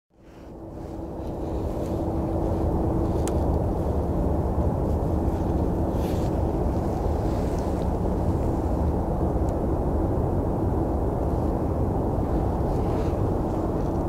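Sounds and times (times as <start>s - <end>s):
distant machinery rumble: 0.1s - 14.0s
faint steady hum: 0.1s - 14.0s.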